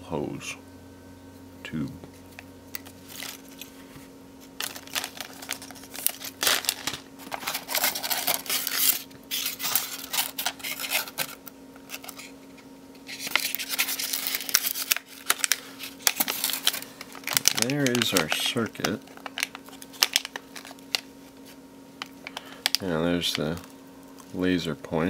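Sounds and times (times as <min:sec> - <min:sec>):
plastic packaging crinkling: 0:02.8 - 0:03.7, 0:04.5 - 0:12.3, 0:13.0 - 0:24.6.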